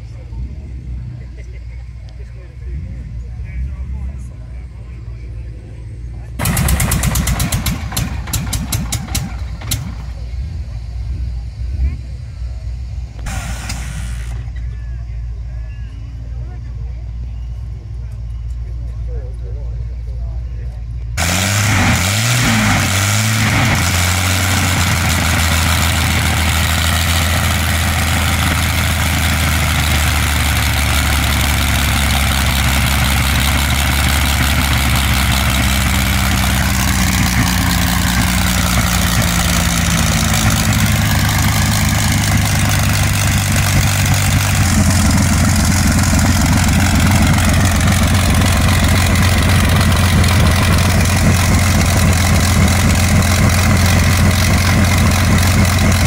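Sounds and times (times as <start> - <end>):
aero engine idling: 0.0 - 56.0.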